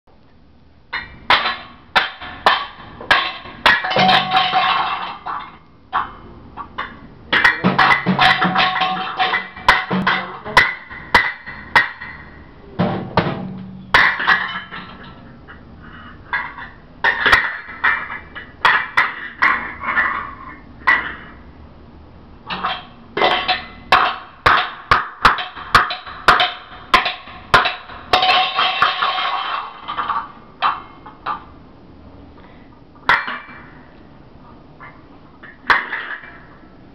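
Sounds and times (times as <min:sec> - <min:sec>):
pots and pans clanging: 0:01.0 - 0:21.4, 0:22.5 - 0:31.5, 0:33.0 - 0:33.9, 0:34.8 - 0:36.7.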